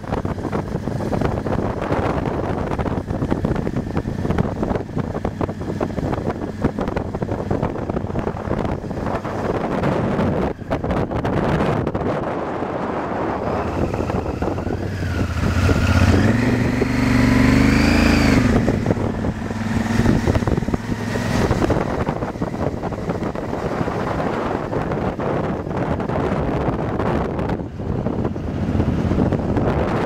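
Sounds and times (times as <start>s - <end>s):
motorcycle engine: 0.0s - 30.0s
wind rushing over microphone: 0.0s - 30.0s.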